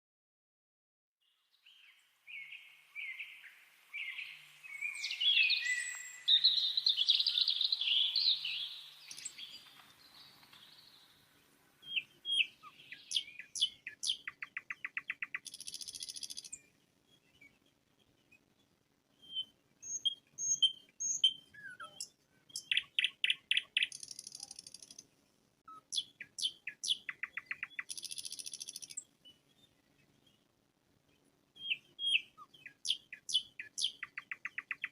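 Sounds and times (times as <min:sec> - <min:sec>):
songbirds singing: 0:01.2 - 0:34.9.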